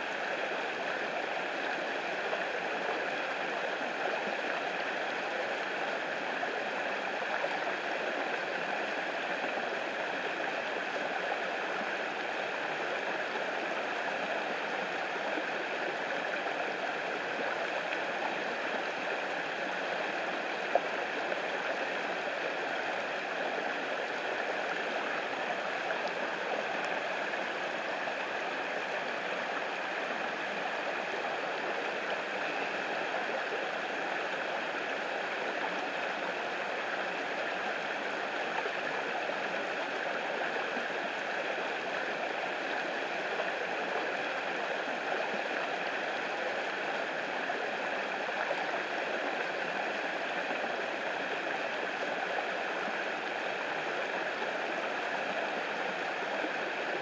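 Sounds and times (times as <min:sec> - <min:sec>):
creek water rushing over rock: 0:00.0 - 0:57.0.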